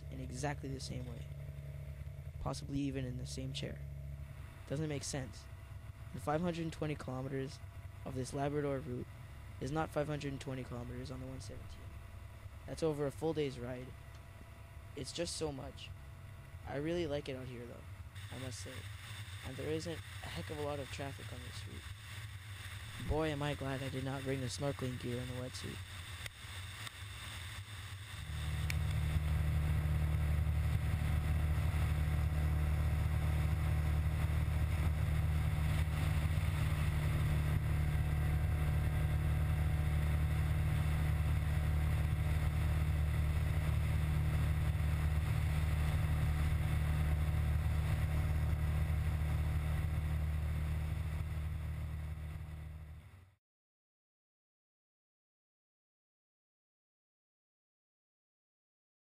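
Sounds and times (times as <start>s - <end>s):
road wind: 0.0s - 53.2s
motorcycle engine cruising: 0.0s - 53.3s.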